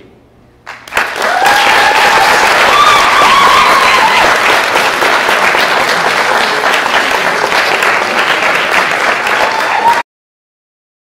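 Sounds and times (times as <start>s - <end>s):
audience applauding: 0.7s - 10.1s
crowd cheering: 0.9s - 10.1s.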